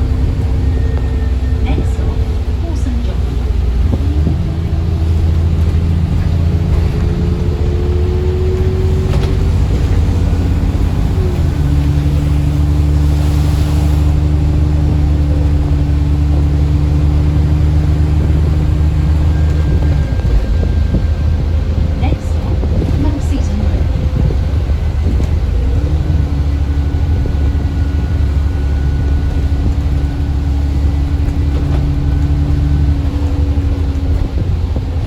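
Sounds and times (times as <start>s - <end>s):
bus engine droning: 0.0s - 35.0s.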